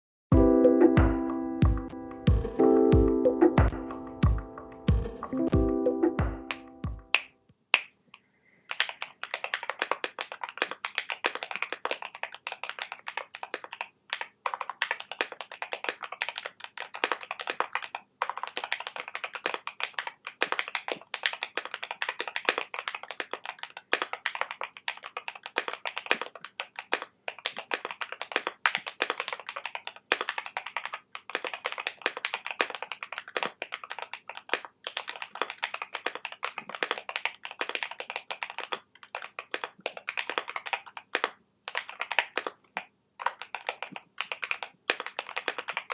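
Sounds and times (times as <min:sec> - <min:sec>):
mechanical keyboard typing: 0:08.7 - 0:45.9.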